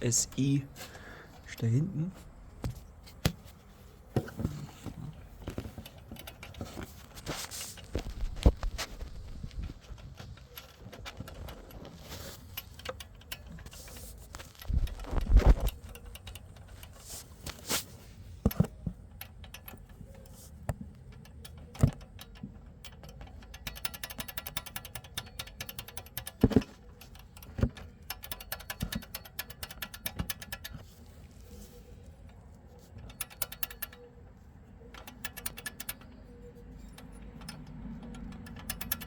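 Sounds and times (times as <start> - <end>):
engine linkage rattling metallically: 4.7 - 39.0.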